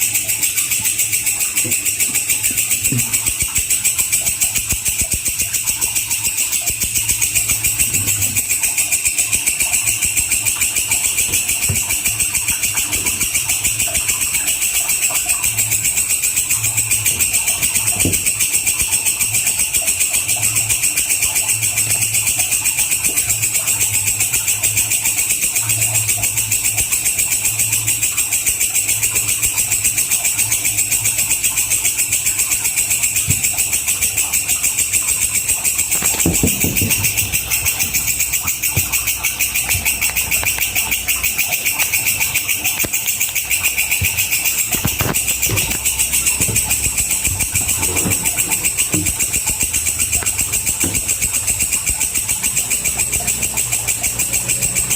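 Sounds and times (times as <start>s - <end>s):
insect trilling: 0.0s - 54.9s.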